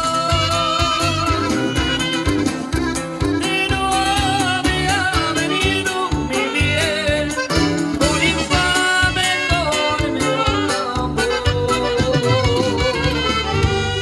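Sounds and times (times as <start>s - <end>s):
steady bass beat: 0.0s - 14.0s.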